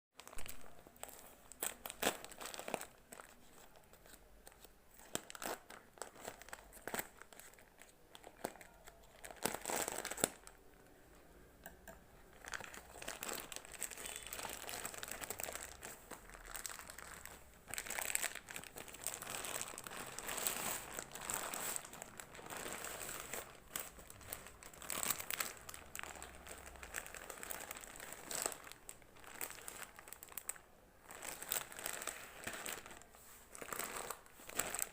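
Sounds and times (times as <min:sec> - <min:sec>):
plastic packaging crinkling: 0:00.2 - 0:10.7, 0:12.2 - 0:34.9.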